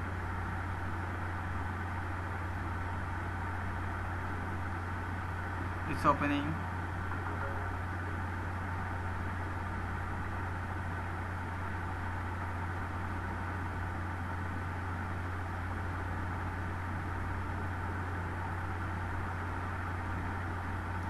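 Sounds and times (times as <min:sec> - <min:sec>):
room hum and hiss: 0:00.0 - 0:21.0.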